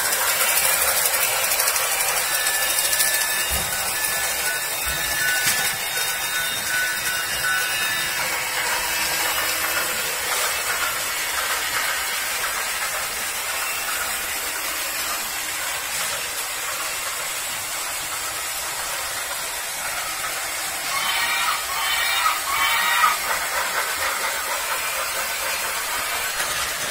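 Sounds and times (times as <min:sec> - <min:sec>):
toy trains whirring on track: 0:00.0 - 0:26.9.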